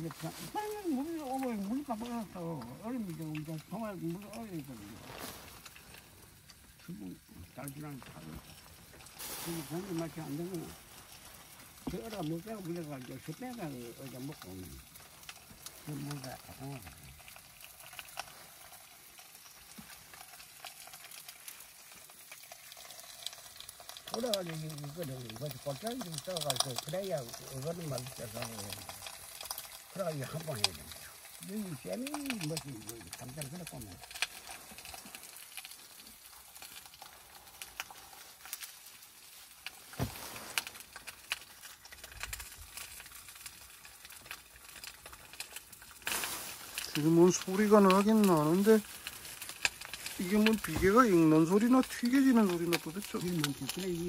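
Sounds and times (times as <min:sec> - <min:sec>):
crackles and pops: 0:00.0 - 0:54.0
pork skin sizzling in a pan: 0:00.0 - 0:54.0.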